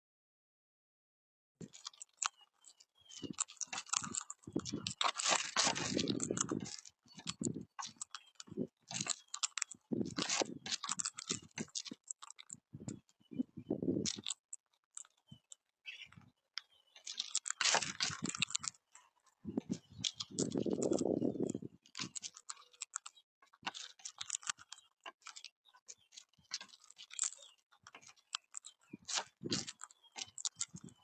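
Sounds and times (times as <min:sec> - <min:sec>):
parrots crunching food: 0:01.6 - 0:31.0.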